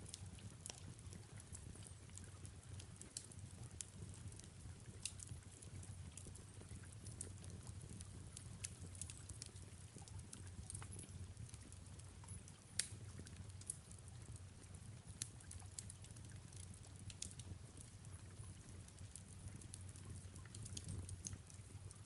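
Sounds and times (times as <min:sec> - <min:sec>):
soft rain: 0:00.0 - 0:22.0
fireplace crackling: 0:00.1 - 0:22.0.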